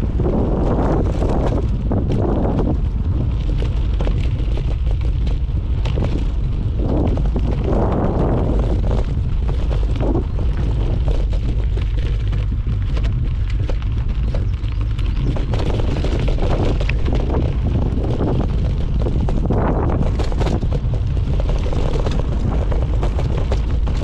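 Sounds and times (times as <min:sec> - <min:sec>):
wind rumble on microphone: 0:00.0 - 0:24.0
bike rattling clicks: 0:00.5 - 0:24.0.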